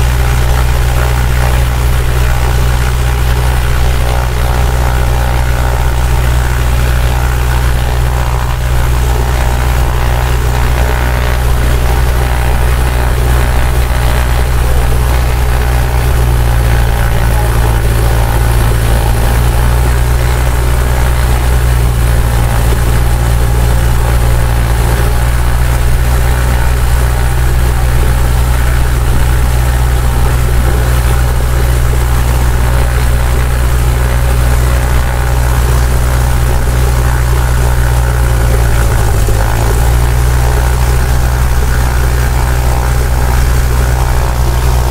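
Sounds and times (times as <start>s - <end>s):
propeller plane engine drone: 0.0s - 44.9s.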